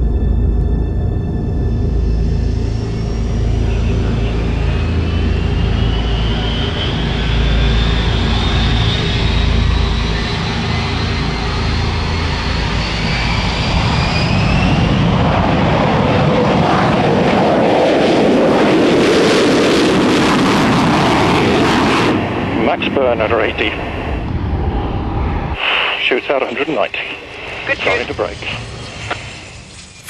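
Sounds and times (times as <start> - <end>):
jet engines whining and rumbling: 0.0 - 30.0.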